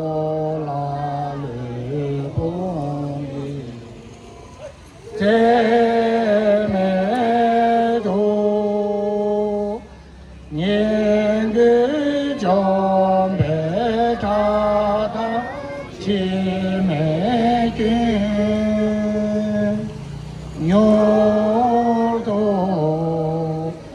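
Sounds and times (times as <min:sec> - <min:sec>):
group chanting in unison: 0:00.0 - 0:09.8, 0:10.5 - 0:23.9.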